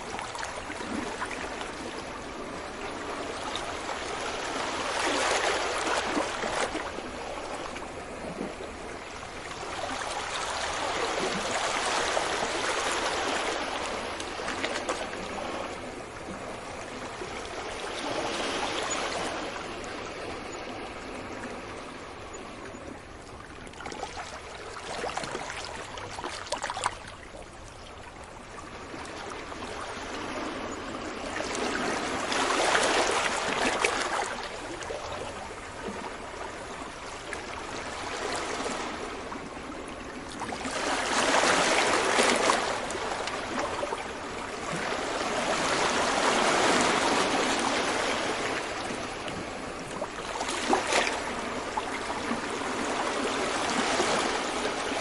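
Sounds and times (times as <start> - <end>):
sea waves breaking on beach: 0.0 - 27.6, 28.4 - 55.0.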